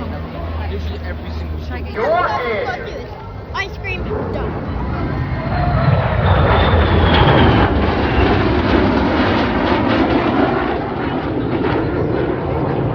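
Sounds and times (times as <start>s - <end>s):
turboprop aircraft flying past: 0.0s - 12.9s.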